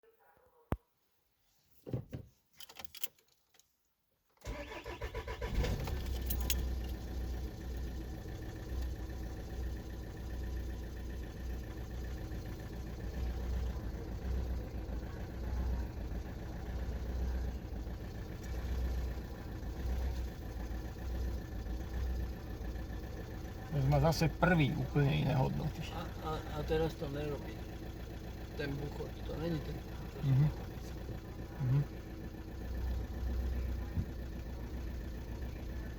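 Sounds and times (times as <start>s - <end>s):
diesel engine starting and idling: 4.4s - 35.9s.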